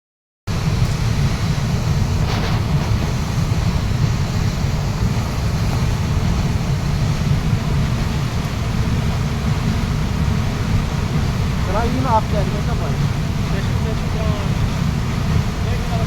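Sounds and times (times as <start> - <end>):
waterfall roaring: 0.5 - 16.0.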